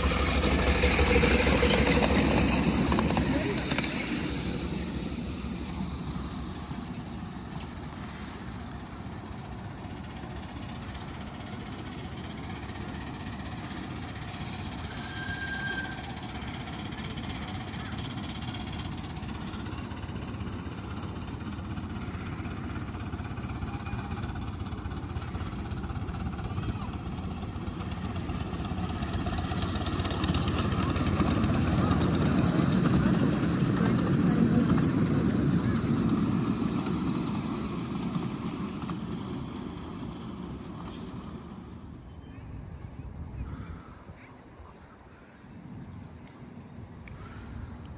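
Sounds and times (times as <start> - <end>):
miniature train rumbling: 0.0 - 45.1.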